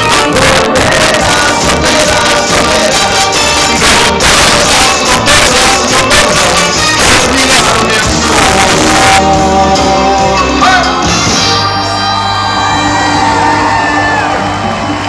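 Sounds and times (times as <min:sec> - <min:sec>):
music with singing: 0:00.0 - 0:15.0.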